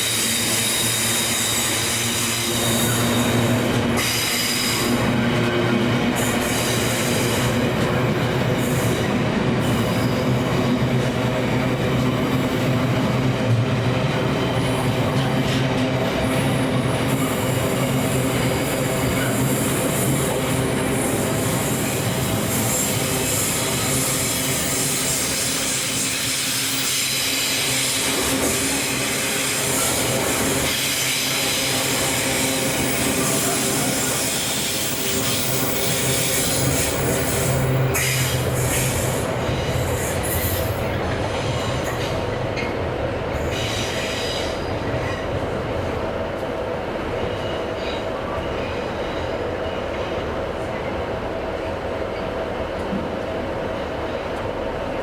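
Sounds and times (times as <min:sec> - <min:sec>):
train wheels squealing on rails: 0:00.0 - 0:55.0.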